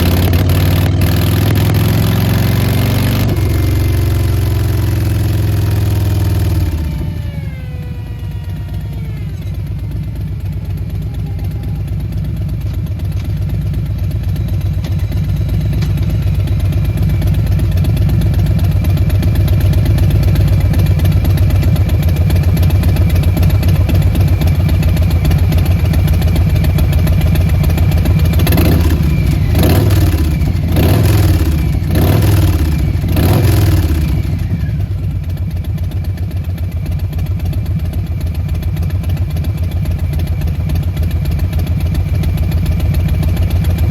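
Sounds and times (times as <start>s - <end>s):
motorcycle engine idling: 0.0s - 43.9s
motorcycle throttle blips: 0.0s - 43.9s.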